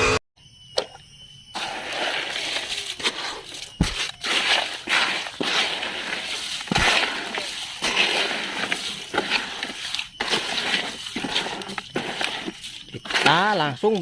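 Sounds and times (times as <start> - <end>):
scrubbing plastic toys: 1.6 - 14.0.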